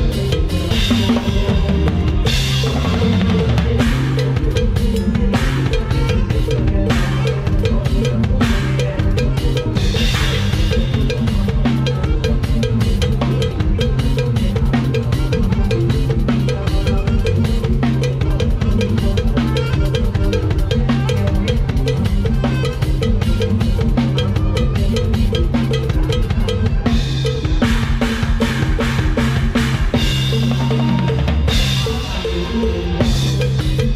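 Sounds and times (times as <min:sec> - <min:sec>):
band backing with bass line: 0:00.0 - 0:33.9
drum kit fast groove: 0:00.0 - 0:33.9.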